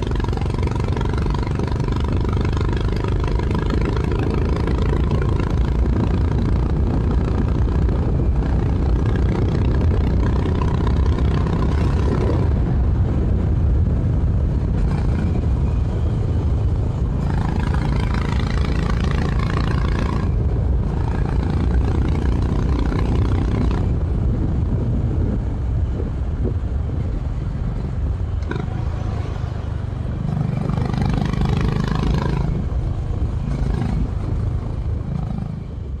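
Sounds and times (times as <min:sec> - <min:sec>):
motorcycle engine running: 0:00.0 - 0:36.0
wind rush: 0:00.0 - 0:36.0.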